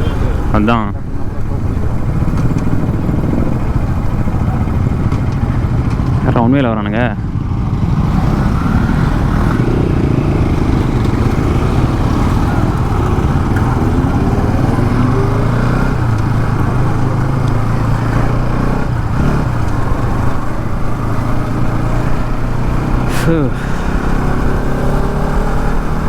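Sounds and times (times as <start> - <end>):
motorcycle engine at road speed: 0.0 - 26.0.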